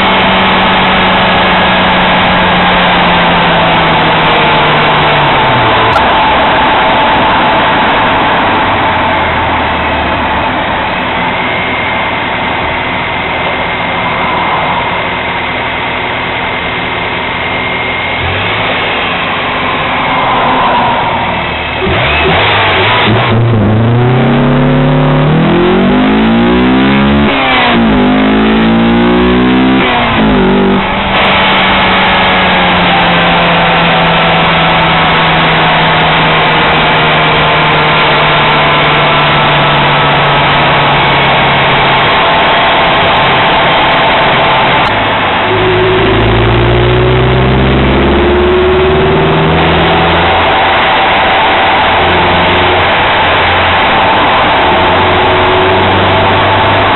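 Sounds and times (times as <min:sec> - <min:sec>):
car engine accelerating hard: 0:00.0 - 0:56.9
loud steady rushing noise: 0:00.0 - 0:56.9.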